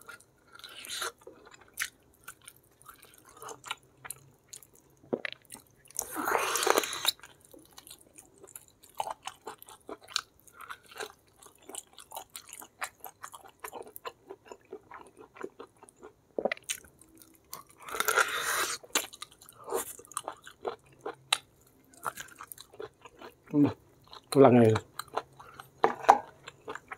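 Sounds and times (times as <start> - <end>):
person chewing and crunching food: 0.0 - 26.9.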